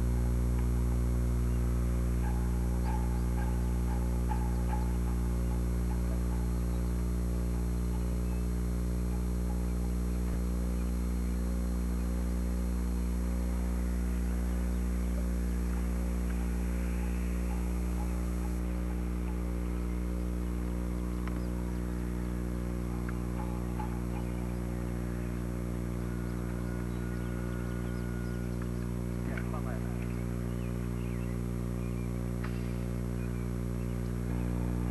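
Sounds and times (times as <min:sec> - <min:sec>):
electrical hum: 0:00.0 - 0:34.9.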